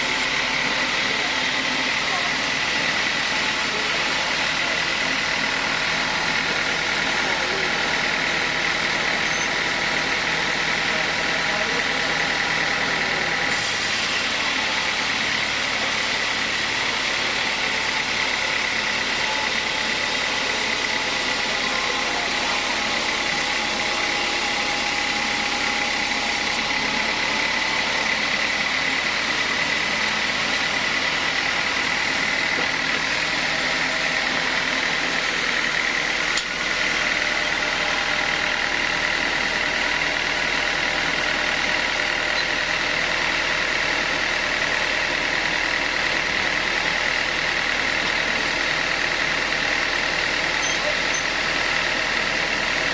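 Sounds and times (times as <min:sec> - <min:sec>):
sawmill saw whining drone: 0:00.0 - 0:52.9.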